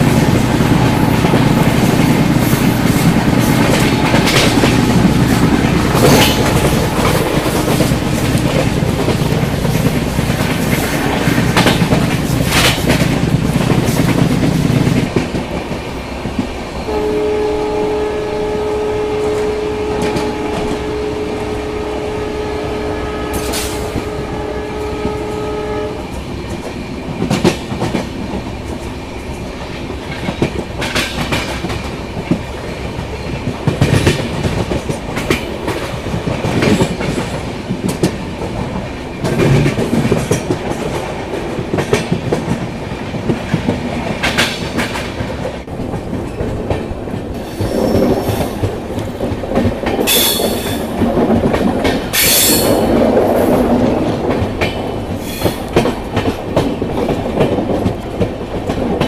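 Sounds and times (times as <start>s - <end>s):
wheels clacking over rail joints: 0.0s - 16.6s, 26.0s - 59.0s
train wheels rumbling on rail: 0.0s - 59.0s.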